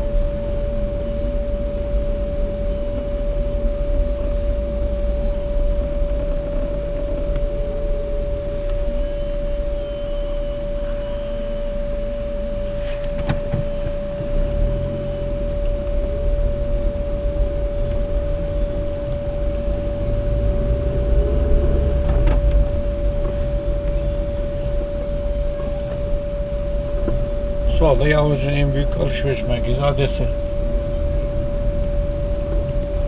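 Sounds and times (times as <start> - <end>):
car engine and road rumble: 0.0 - 33.0
high-pitched whine: 0.0 - 33.0.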